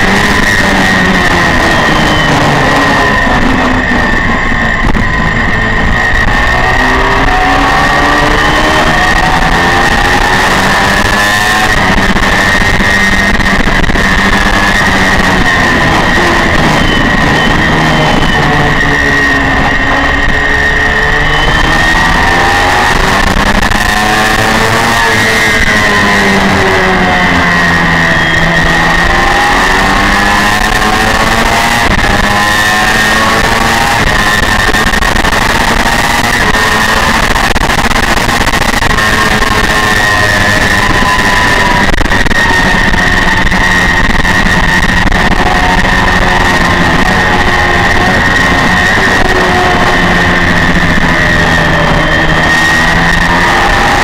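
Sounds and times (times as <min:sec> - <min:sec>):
motorcycle engine at high revs: 0:00.0 - 0:54.0
wind rush: 0:00.0 - 0:54.0.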